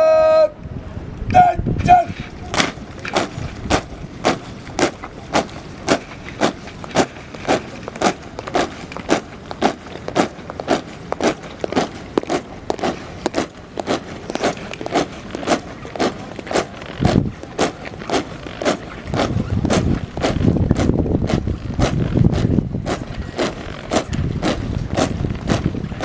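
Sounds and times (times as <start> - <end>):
soldiers marching in step: 1.4 - 26.0.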